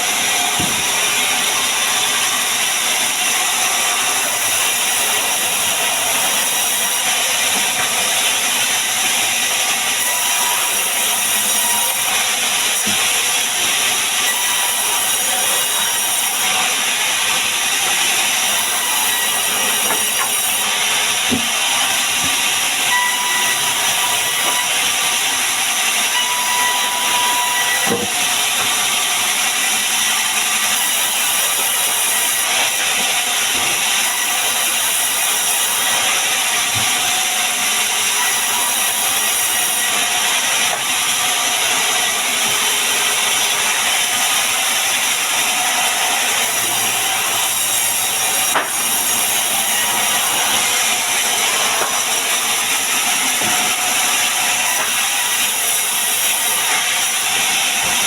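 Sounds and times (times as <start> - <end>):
power tool cutting wood: 0.0 - 58.0.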